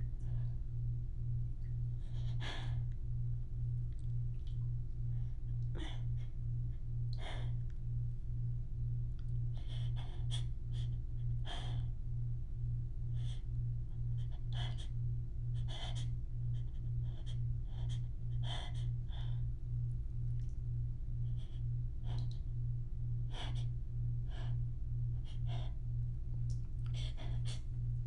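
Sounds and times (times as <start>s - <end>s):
pulsing low hum: 0.0s - 28.0s.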